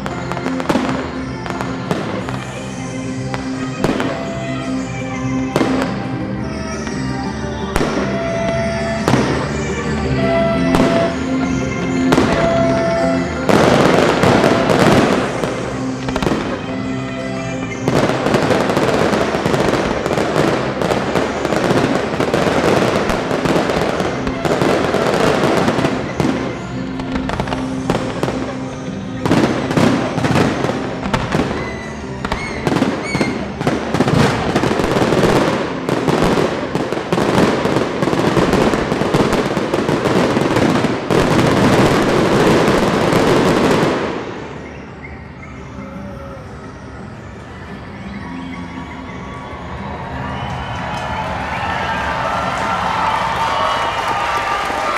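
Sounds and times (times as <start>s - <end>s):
fireworks bangs and crackling: 0.0s - 45.6s
music playing: 0.0s - 54.9s.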